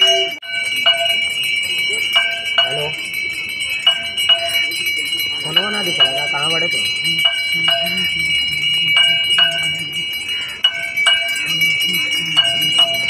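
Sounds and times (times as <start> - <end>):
bells ringing: 0.0 - 13.0
voices: 0.0 - 13.0.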